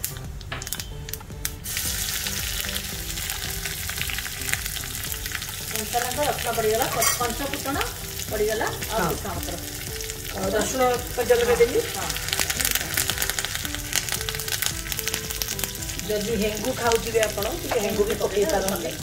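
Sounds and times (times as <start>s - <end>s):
garlic sizzling in hot oil: 0.0s - 19.0s.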